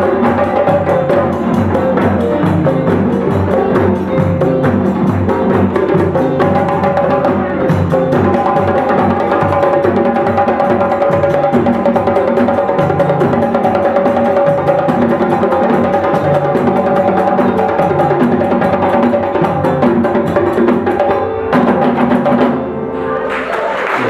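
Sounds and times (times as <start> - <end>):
stick-beaten bass drums: 0.0 - 22.7
hand drums playing fast rhythm: 0.0 - 22.8.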